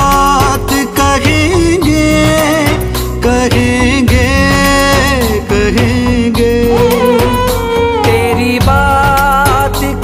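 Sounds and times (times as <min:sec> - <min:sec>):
film song with bass: 0:00.0 - 0:10.0.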